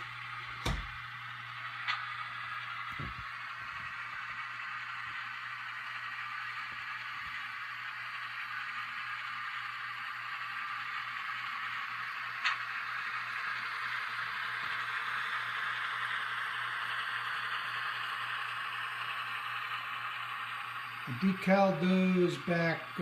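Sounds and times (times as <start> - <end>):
model diesel engine sound: 0.0 - 23.0
model train rolling on track: 0.0 - 23.0.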